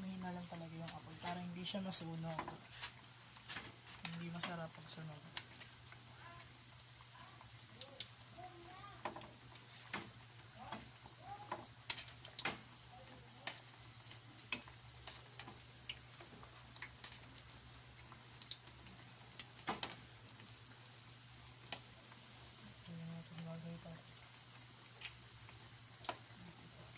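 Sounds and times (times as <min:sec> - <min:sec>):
fritters sizzling in oil: 0:00.0 - 0:26.9.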